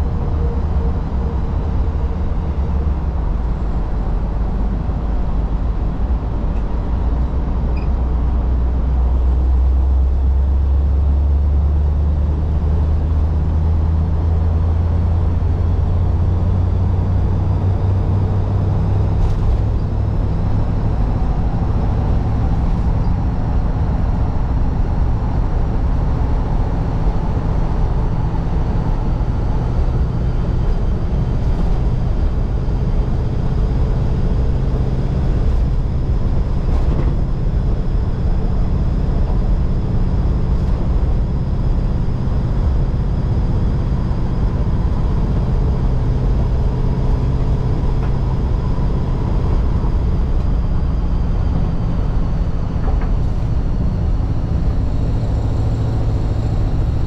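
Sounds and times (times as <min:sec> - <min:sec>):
car engine running: 0:00.0 - 0:57.0
road noise: 0:00.0 - 0:57.0.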